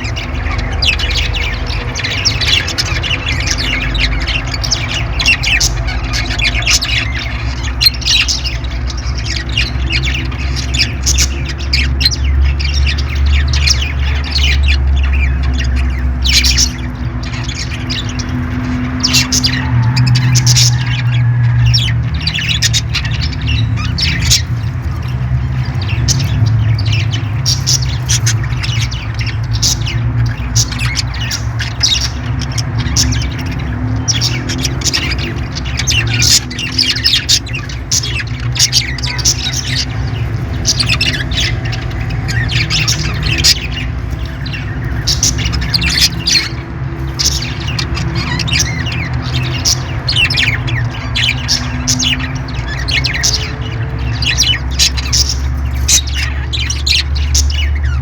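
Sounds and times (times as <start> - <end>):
parrots squawking and chirping: 0.0 - 58.0.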